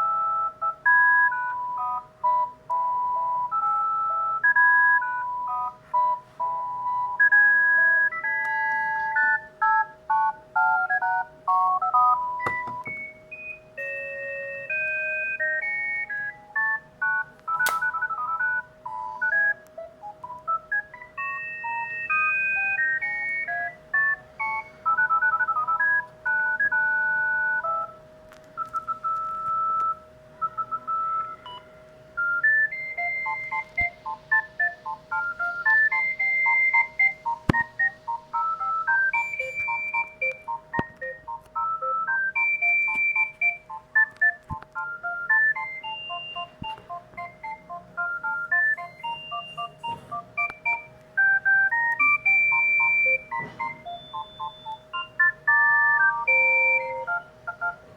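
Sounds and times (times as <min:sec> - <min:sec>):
phone ringtone beep melody: 0:00.0 - 0:28.0, 0:28.6 - 0:57.9.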